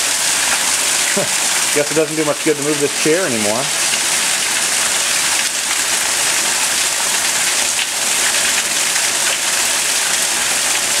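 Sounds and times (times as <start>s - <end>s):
water pouring into standing water: 0.0s - 11.0s.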